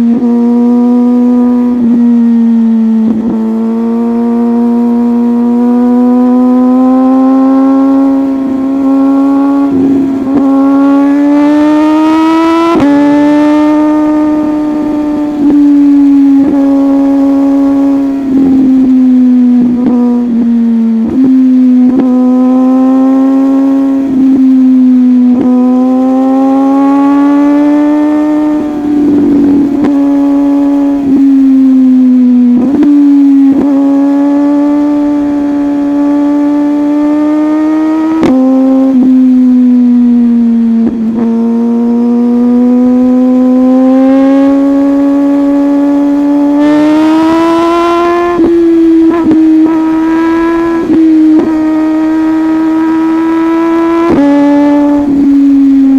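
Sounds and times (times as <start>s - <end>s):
superbike engine running hard: 0.0s - 55.9s.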